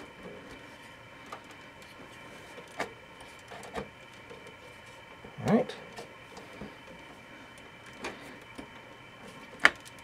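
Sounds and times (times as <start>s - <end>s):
steady faint hum: 0.0s - 10.0s.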